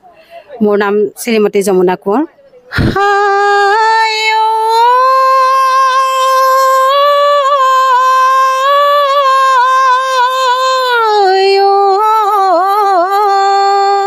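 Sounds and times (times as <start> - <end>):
woman singing unaccompanied: 0.6 - 14.0.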